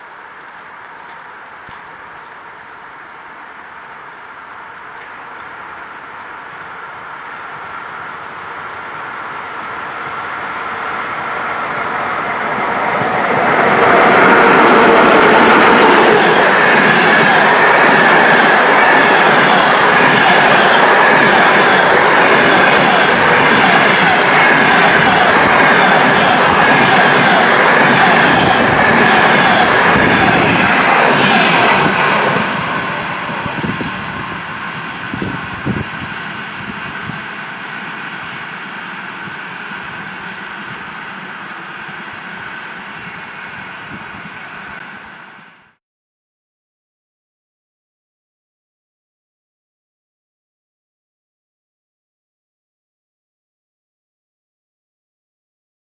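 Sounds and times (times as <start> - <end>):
high steady train note: 0.0 - 45.8
train wheels on rails: 0.0 - 45.8.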